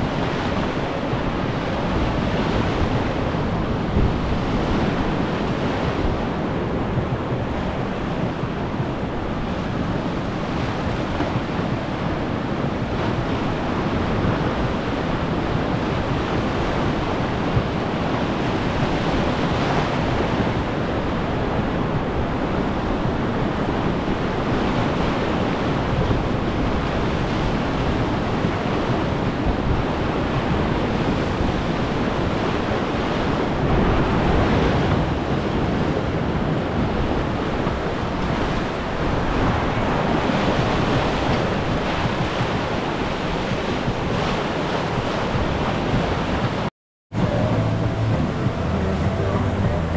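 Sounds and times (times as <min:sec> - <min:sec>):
whitewater rapids rushing: 0:00.0 - 0:49.9.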